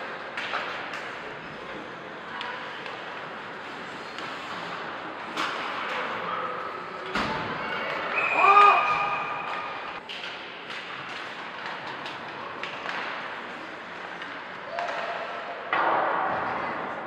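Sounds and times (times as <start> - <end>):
hockey sticks and puck clacking: 0.0 - 6.3, 7.1 - 16.9
crowd noise: 0.0 - 17.0.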